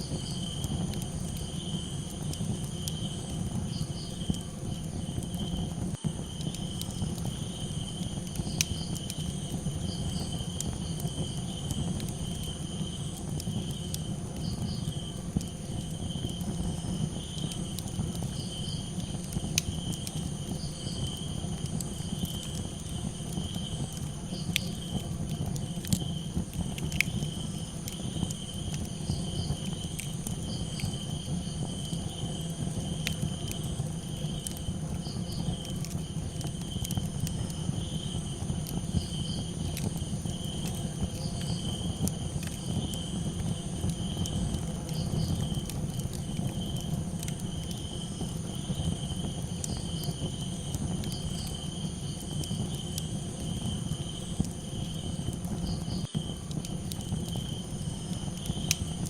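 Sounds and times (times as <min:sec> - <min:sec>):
campfire crackling and popping: 0:00.0 - 0:59.0
crickets chirping: 0:00.0 - 0:59.0
high insect trill: 0:00.0 - 0:59.0.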